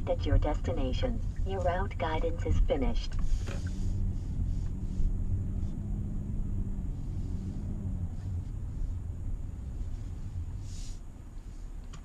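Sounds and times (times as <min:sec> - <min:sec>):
car cabin rumble: 0:00.0 - 0:12.0
steady low hum: 0:00.0 - 0:12.0.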